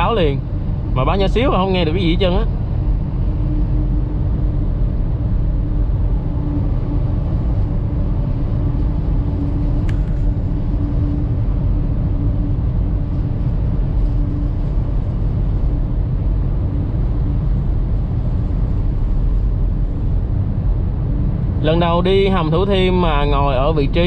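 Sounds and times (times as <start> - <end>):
car driving through tunnel: 0.0 - 24.0
steady hum: 0.0 - 24.0.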